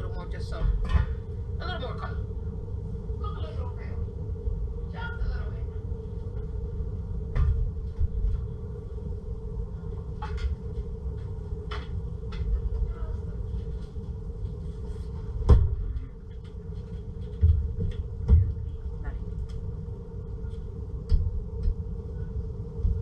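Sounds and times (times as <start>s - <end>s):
low rumble and hum: 0.0s - 23.0s.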